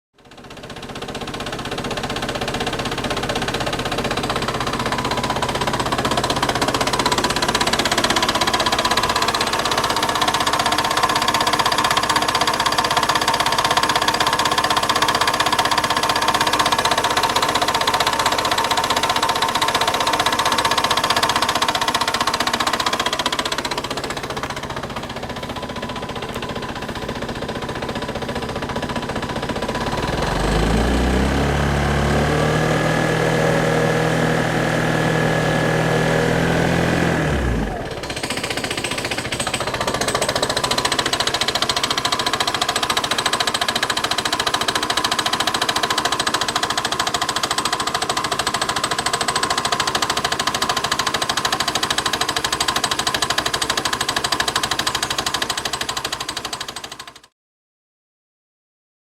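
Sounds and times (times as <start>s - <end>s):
scooter engine knocking: 0.2s - 30.8s, 33.8s - 57.3s.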